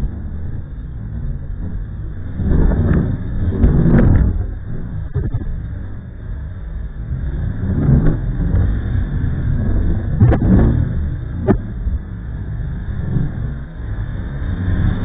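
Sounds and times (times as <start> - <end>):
wind buffeting microphone: 0.0 - 6.9, 7.6 - 13.8.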